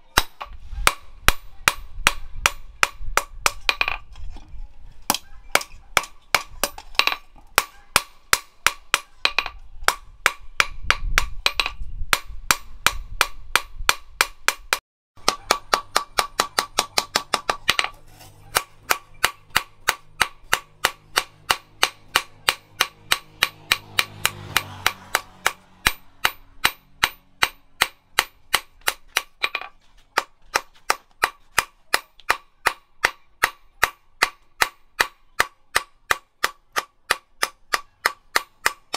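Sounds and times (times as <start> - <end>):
hammer striking steel on anvil: 5.1 - 38.9.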